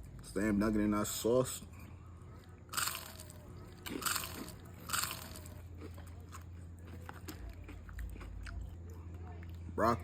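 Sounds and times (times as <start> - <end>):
crunchy chewing: 1.8 - 10.0.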